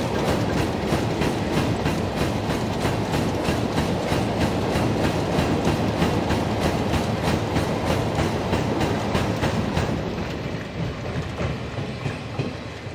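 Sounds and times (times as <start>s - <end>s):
freight train wheels clacking: 0.0s - 12.9s
train rumble: 0.0s - 12.9s.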